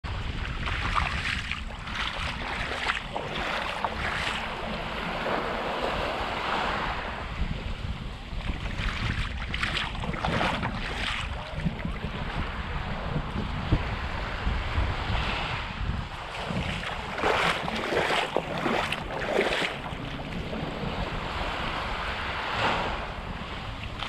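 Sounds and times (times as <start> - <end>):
wind buffeting microphone: 0.0 - 24.0
small waves washing onto beach: 0.1 - 24.0.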